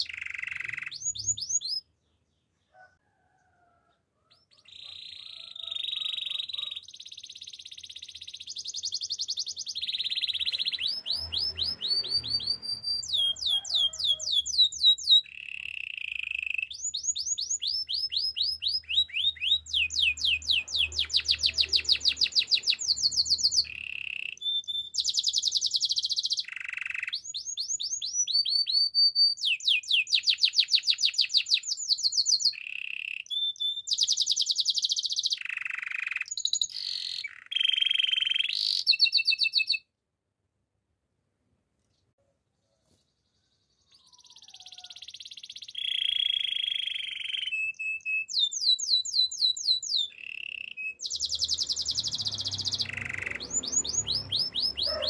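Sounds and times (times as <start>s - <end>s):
canary singing trills: 0.0s - 3.0s, 4.2s - 39.9s, 43.2s - 55.0s.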